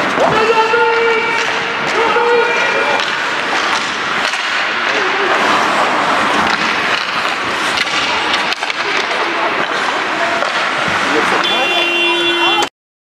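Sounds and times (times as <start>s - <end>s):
hockey sticks and puck knocking: 0.0s - 11.9s
skates scraping on ice: 0.0s - 12.7s.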